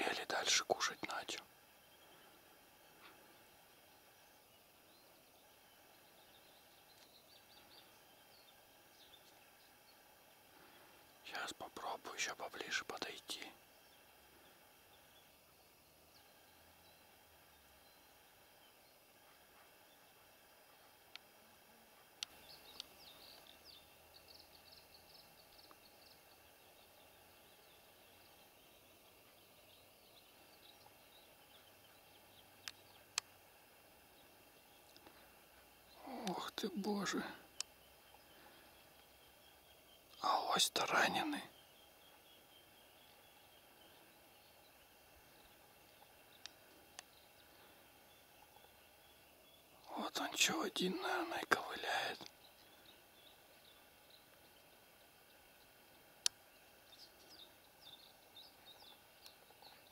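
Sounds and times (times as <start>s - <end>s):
faint outdoor hiss: 0.0s - 59.9s.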